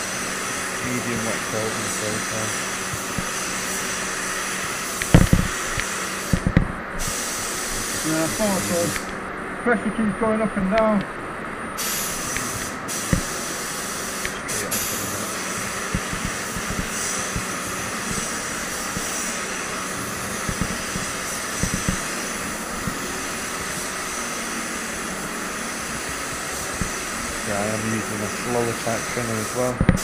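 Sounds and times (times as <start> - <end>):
spray gun hissing: 0.0 - 9.1, 11.8 - 30.0.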